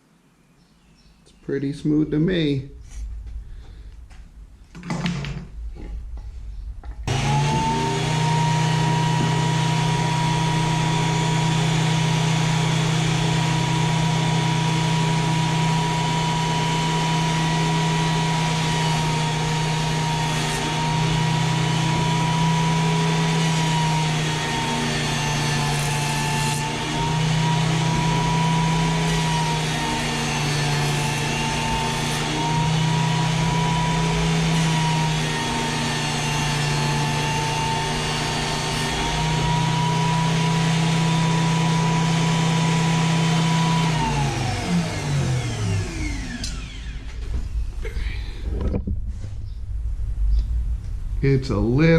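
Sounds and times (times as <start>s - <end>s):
jointer whining: 6.8s - 49.0s.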